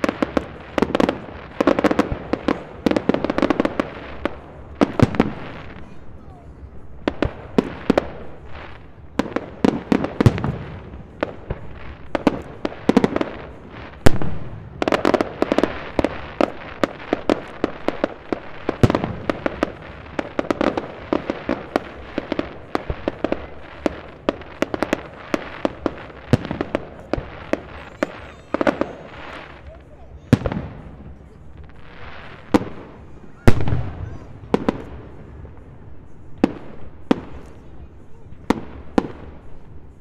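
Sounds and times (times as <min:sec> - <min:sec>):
crackling: 0:00.0 - 0:40.0.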